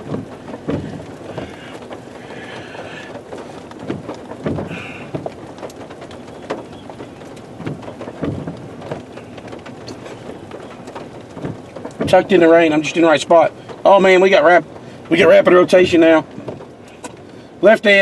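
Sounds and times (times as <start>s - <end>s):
heavy rain on a vehicle: 0.0s - 18.0s
sharp taps of raindrops: 0.0s - 18.0s.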